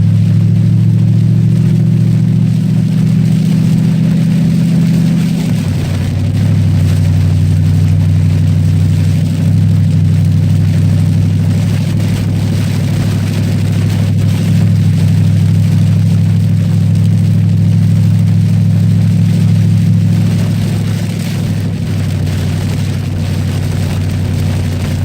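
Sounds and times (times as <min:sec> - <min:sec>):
car engine running at speed: 0:00.0 - 0:25.0
wet tyres hissing: 0:00.0 - 0:25.0.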